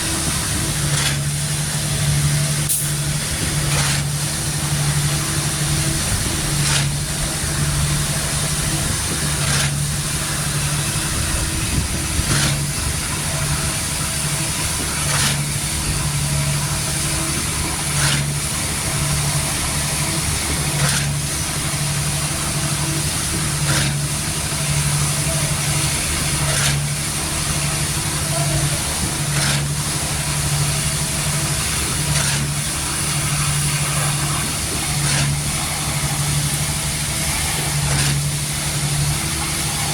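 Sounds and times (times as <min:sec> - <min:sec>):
diesel pump truck running: 0:00.0 - 0:39.9.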